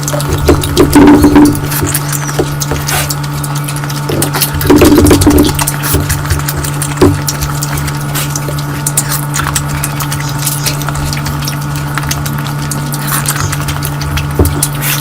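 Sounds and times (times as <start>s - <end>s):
low electrical hum: 0.0s - 15.0s
wet chewing and lip smacks: 0.0s - 15.0s.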